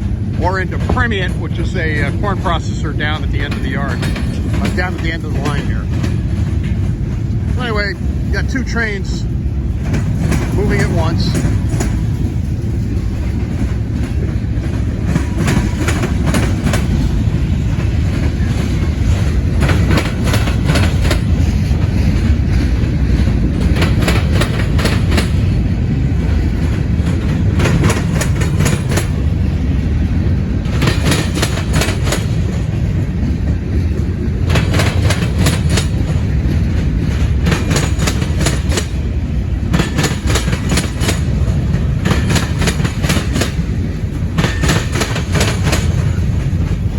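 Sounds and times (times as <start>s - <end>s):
freight train cars rolling: 0.0s - 46.9s
wheels clacking over rail joints: 0.0s - 46.9s.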